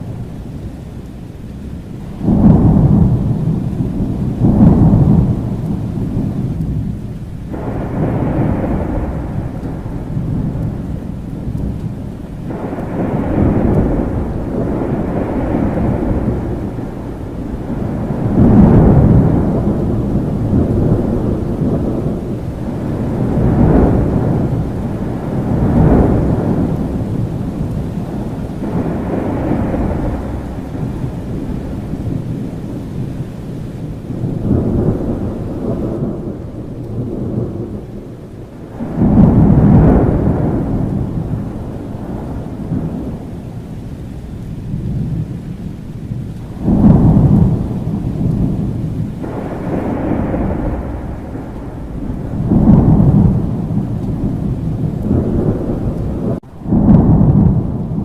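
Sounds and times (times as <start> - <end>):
steady rain: 0.0 - 58.0
thunder rolling: 0.0 - 58.0.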